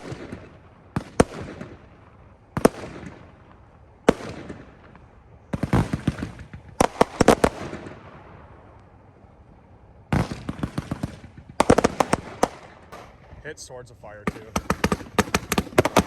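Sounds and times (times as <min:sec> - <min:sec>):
fireworks bursting: 0:00.0 - 0:08.8, 0:09.9 - 0:16.0
rumbling echo: 0:01.3 - 0:16.0.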